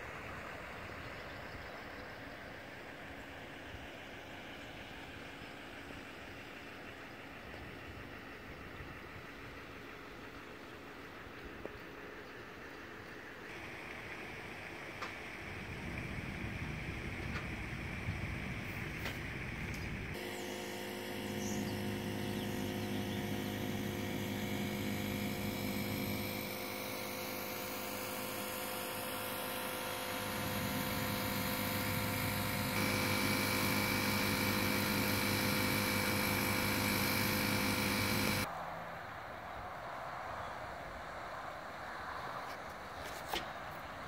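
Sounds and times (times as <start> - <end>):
steady mechanical drone: 0.0 - 38.5.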